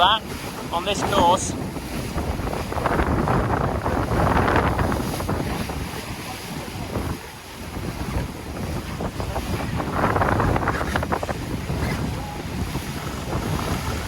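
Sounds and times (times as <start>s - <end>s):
water splashing along hull: 0.0s - 14.0s
wind buffeting microphone: 0.0s - 14.0s.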